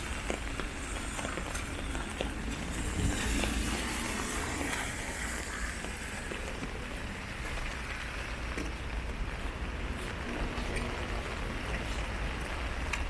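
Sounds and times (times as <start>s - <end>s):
low rumble: 0.0s - 12.8s
rain-like hiss: 0.0s - 13.0s.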